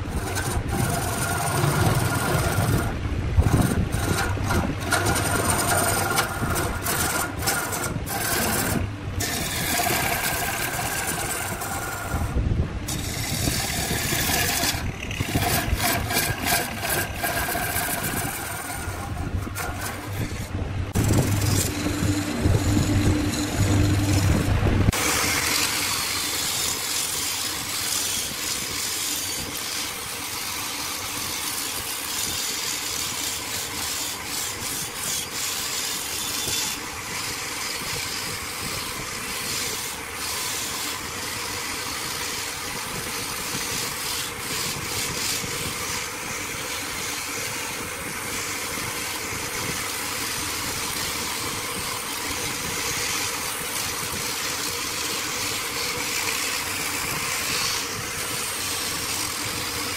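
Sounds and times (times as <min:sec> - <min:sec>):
motors running: 0:00.0 - 0:59.9
sanding disc abrasive hiss: 0:00.0 - 0:59.9.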